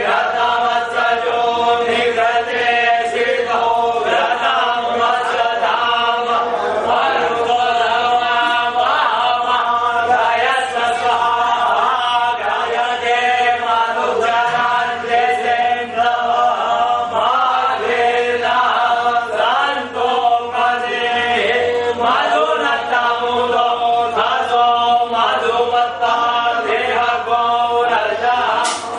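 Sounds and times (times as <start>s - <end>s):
voices chanting a mantra: 0.0s - 28.9s.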